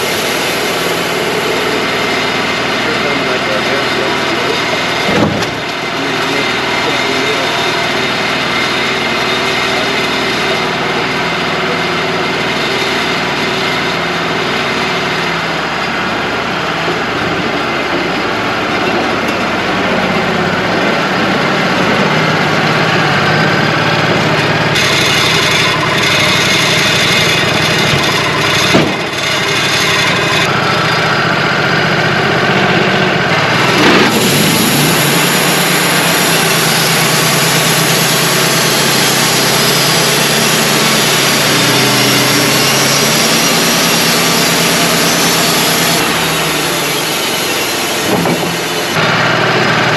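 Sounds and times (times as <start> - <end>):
band sawmill cutting a log: 0.0 - 49.9.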